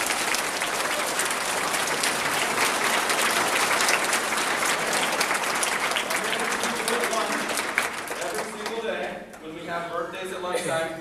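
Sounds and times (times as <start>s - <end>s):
children applauding: 0.0s - 9.0s.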